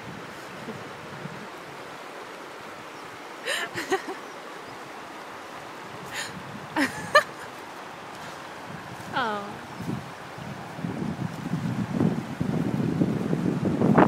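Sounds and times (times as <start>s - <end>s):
wind on microphone: 0.0s - 4.0s, 5.5s - 14.0s
shallow river water rushing: 0.0s - 14.0s.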